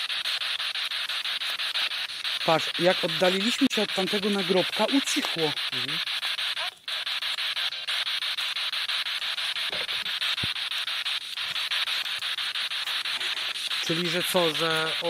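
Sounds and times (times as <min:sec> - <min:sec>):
radio static with rapid pulses: 0:00.0 - 0:15.0.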